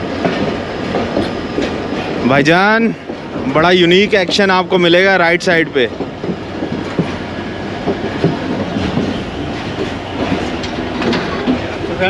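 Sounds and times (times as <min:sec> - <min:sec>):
train rolling rumble: 0:00.0 - 0:12.0
wheels clacking over rail joints: 0:00.0 - 0:12.0.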